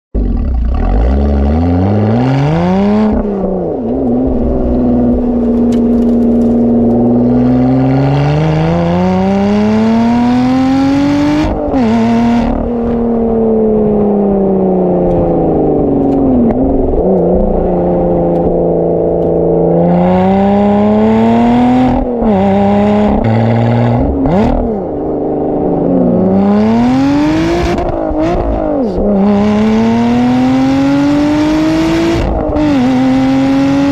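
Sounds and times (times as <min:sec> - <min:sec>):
car engine and exhaust revving: 0:00.1 - 0:33.9.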